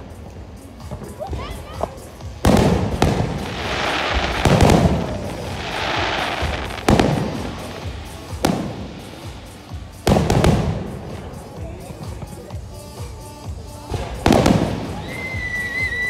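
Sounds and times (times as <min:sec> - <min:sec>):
fireworks crackling hiss: 0:00.0 - 0:16.0
music: 0:00.0 - 0:16.0
fireworks booming: 0:00.8 - 0:12.4, 0:13.8 - 0:16.0.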